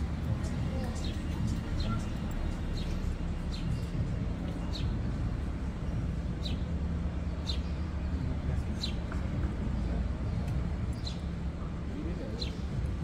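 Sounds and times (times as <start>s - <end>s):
low rumble of street traffic: 0.0s - 13.0s.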